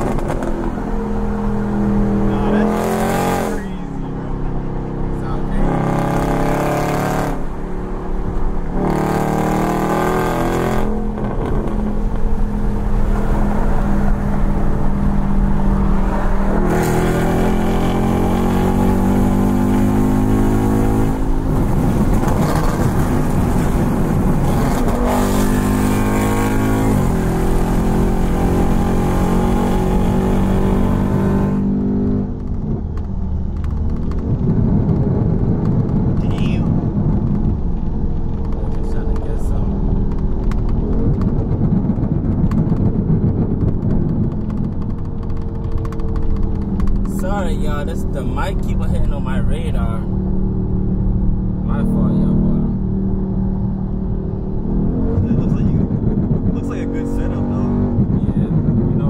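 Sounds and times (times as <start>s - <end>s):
car engine accelerating hard: 0.0s - 59.0s.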